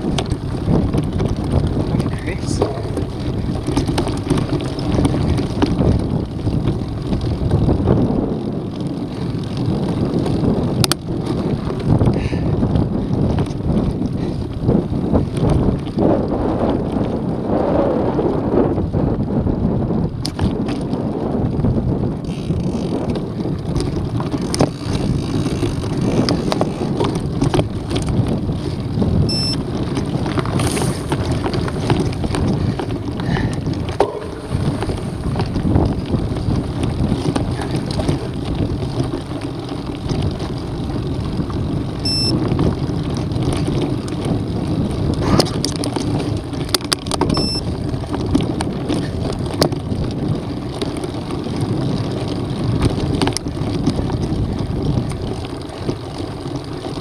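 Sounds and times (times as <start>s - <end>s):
bike rattling: 0.0s - 57.0s
bike tyres rumbling on stones: 0.0s - 57.0s
wind buffeting microphone: 0.0s - 57.0s.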